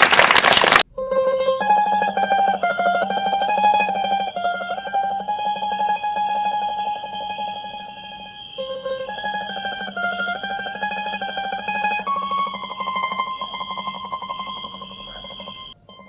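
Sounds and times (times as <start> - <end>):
mandolin tremolo melody: 1.0 - 16.0.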